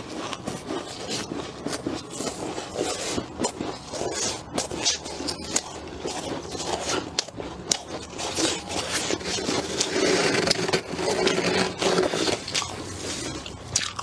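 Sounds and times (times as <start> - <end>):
freezer frost scraping: 0.0 - 14.0.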